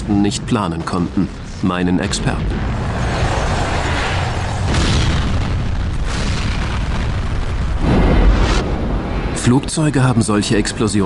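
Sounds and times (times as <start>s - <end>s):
explosion with deep rumble: 0.3s - 10.8s.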